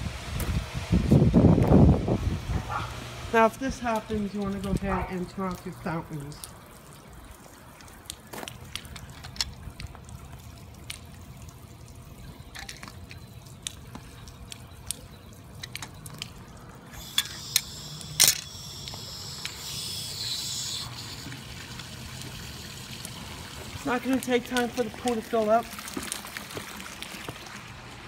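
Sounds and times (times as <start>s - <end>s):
water trickling and dripping: 3.9s - 28.0s.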